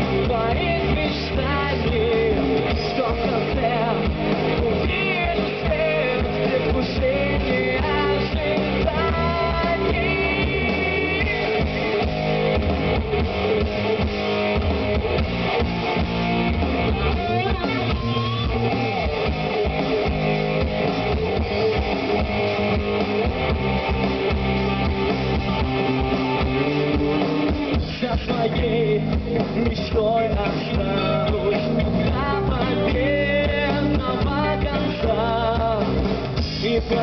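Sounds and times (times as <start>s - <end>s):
bass guitar: 0.0s - 37.0s
drums: 0.0s - 37.0s
electric guitars: 0.0s - 37.0s.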